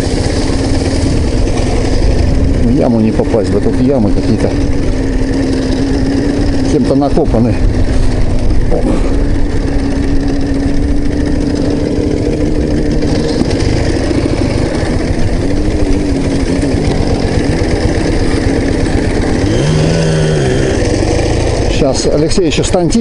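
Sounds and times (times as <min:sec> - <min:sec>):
motorcycle engine running under load: 0:00.0 - 0:23.0
rumble of travel over rough grass: 0:00.0 - 0:23.0.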